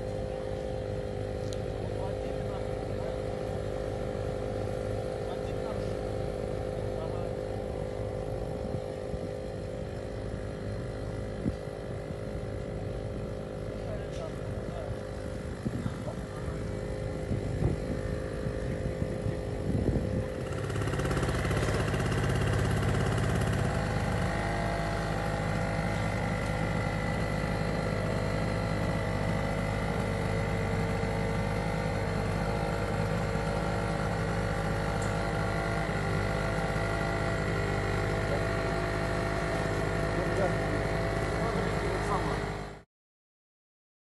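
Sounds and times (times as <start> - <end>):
steady mechanical hum: 0.0 - 42.8.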